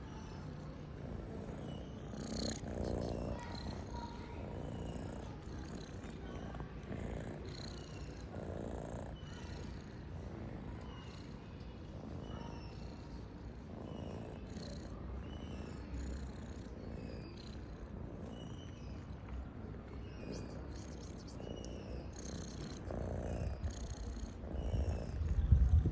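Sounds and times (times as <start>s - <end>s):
cat purring: 0.0s - 25.9s.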